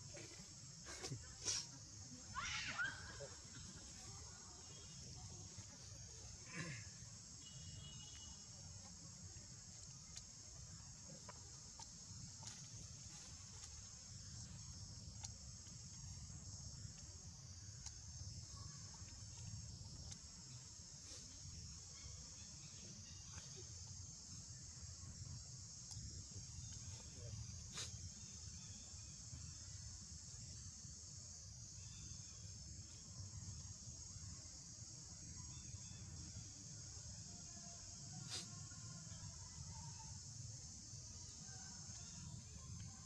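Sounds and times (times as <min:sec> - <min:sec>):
faint chirps: 0:00.0 - 0:43.0
insects buzzing: 0:00.0 - 0:43.0.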